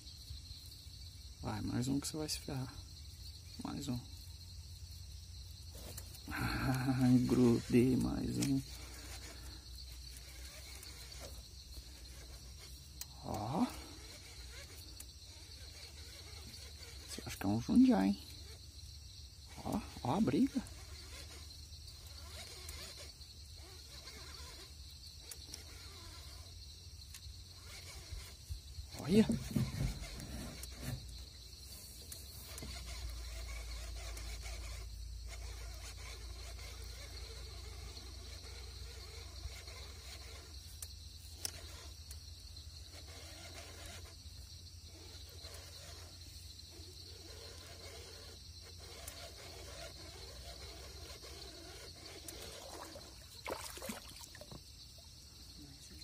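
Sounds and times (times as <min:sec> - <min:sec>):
crickets chirring: 0:00.0 - 0:56.0
night insects trilling: 0:00.0 - 0:56.0
faint ticks: 0:05.4 - 0:53.4.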